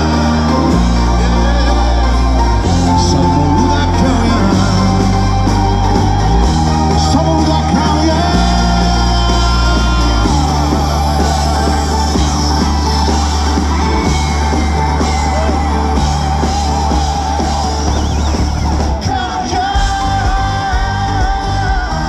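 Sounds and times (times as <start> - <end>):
person singing: 0.0 - 17.5, 18.8 - 22.0
bass notes: 0.0 - 22.0
pop-rock song with band: 0.0 - 22.0.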